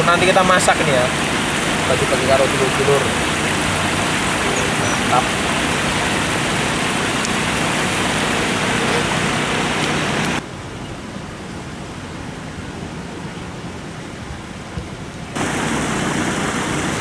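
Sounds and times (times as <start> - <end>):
river water rushing over step: 0.0 - 17.0.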